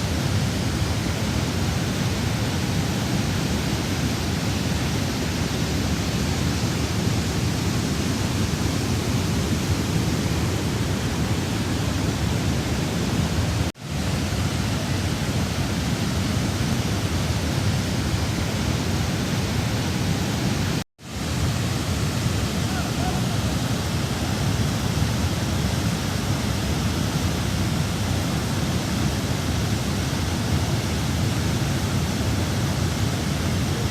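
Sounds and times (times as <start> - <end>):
rushing floodwater roar: 0.0 - 33.9.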